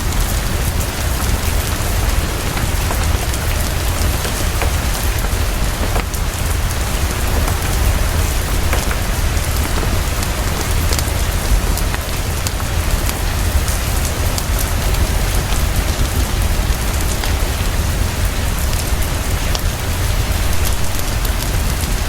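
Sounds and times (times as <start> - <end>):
heavy rainfall: 0.0 - 22.0.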